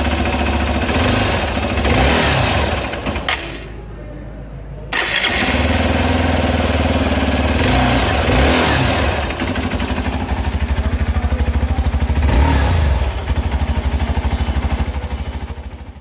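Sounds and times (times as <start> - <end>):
motorcycle engine idling and revving: 0.0 - 3.8, 4.9 - 16.0.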